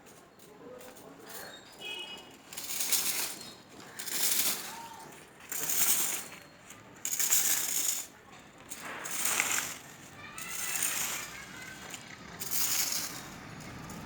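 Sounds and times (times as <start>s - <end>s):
rake dragged through dry leaves: 2.3s - 14.0s.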